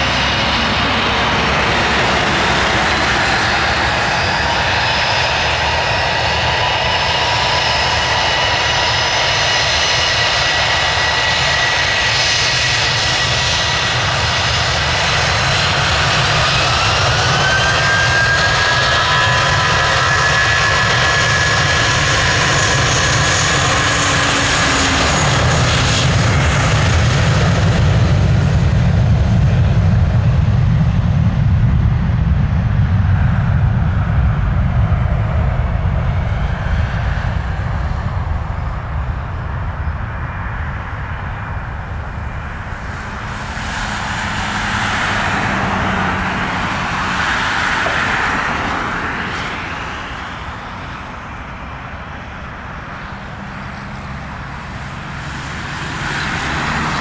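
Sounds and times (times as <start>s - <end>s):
deep jet exhaust rumble: 0.0s - 57.0s
jet engine whine rising: 0.0s - 57.0s
jet engines at takeoff power: 0.0s - 57.0s.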